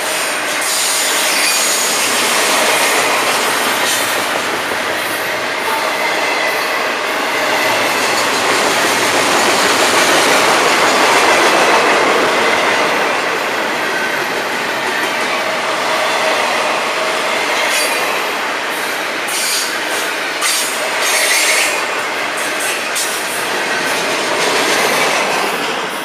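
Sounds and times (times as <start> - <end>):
freight train wheels rolling: 0.0 - 26.0.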